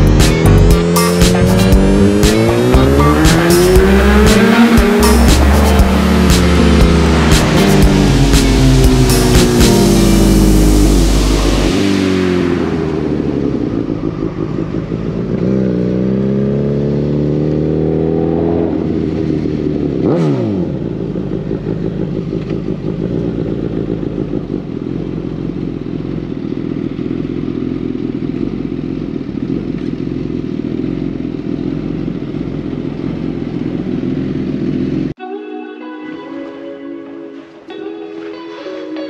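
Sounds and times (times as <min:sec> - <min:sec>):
motorcycle engine revving: 0:00.0 - 0:35.2.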